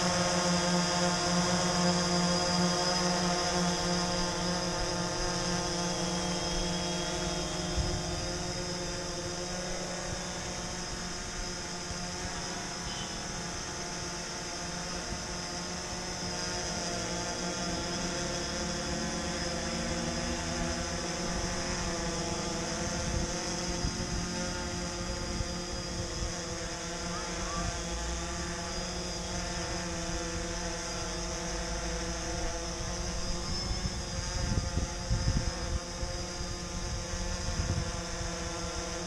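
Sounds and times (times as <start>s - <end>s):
drone propeller buzz: 0.0s - 39.0s.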